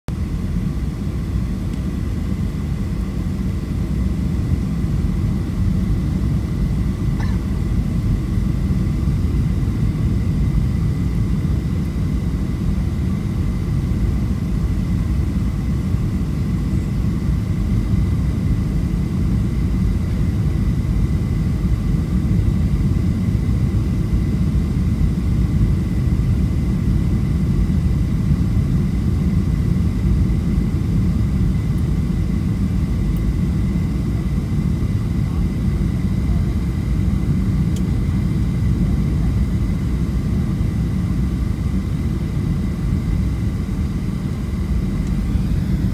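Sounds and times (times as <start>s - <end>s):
airplane cabin rumble: 0.1s - 45.9s
thin steady whine: 0.1s - 45.9s.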